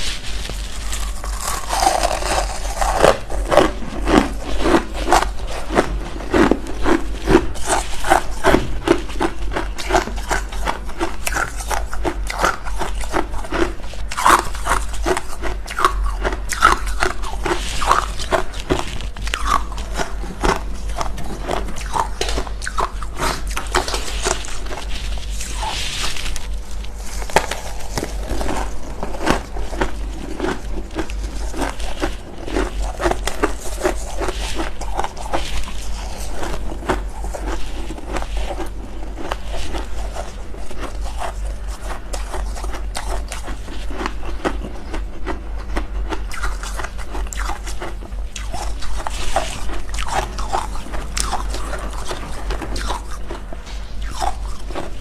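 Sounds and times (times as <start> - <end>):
frost being chewed crunching: 0.0 - 55.0
steady low hum: 0.0 - 55.0.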